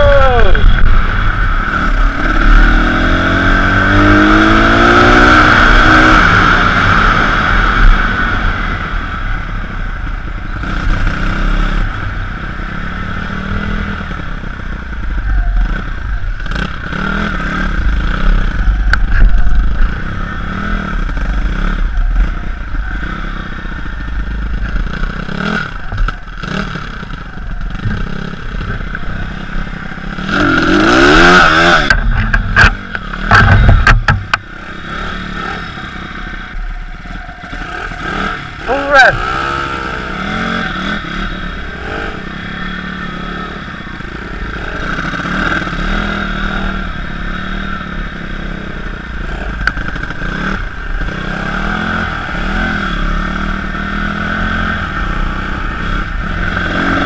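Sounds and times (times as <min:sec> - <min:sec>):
pit bike engine running: 0:00.0 - 0:57.0.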